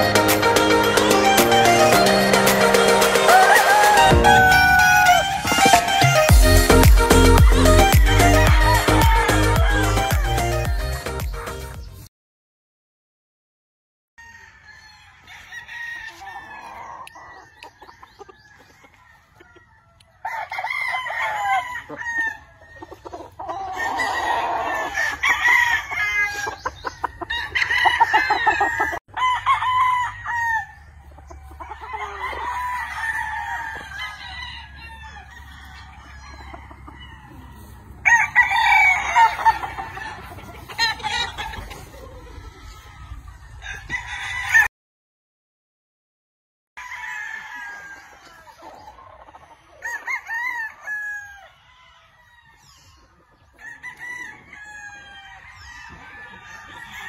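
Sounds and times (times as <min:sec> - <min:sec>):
roosters crowing: 0:00.0 - 0:11.0, 0:14.2 - 0:44.7, 0:46.8 - 0:57.0
chickens clucking: 0:00.0 - 0:12.0, 0:14.8 - 0:29.2, 0:30.6 - 0:44.0, 0:47.6 - 0:57.0.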